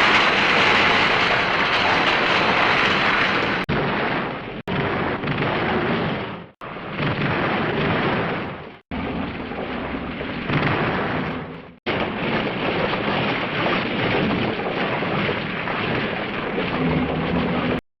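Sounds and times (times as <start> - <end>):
explosion rumbling: 0.0 - 17.8.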